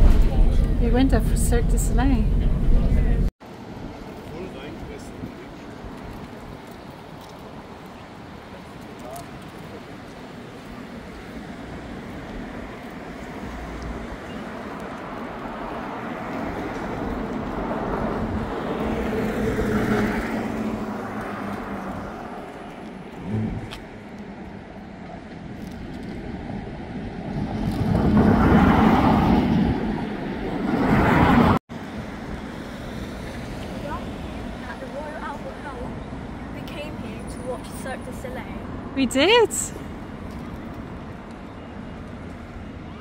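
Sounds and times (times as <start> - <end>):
cars passing by: 0.0 - 43.0.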